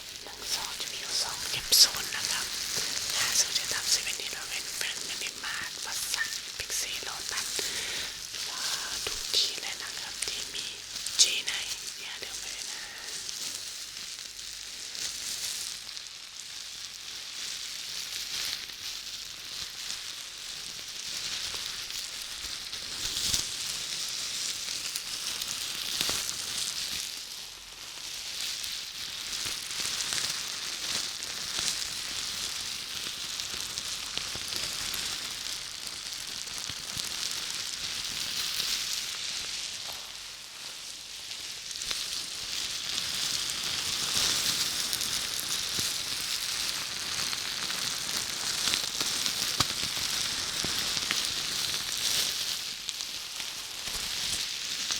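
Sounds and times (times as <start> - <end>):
crackling scratching hiss: 0.0 - 54.9.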